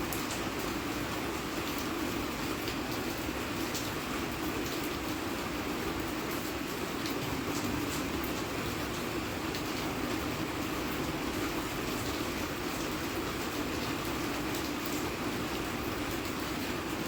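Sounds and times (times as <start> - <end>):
steady rain hiss: 0.0 - 17.0
ticks of raindrops: 0.0 - 17.0.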